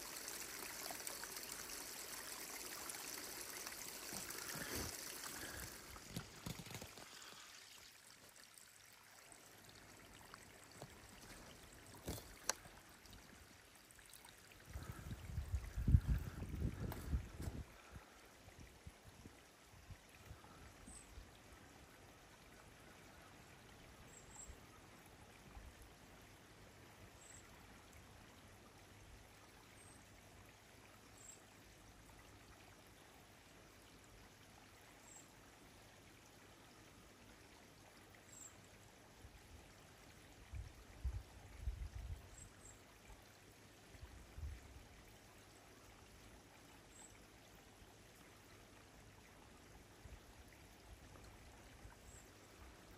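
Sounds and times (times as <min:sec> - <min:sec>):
faint outdoor hiss: 0:00.0 - 0:52.9.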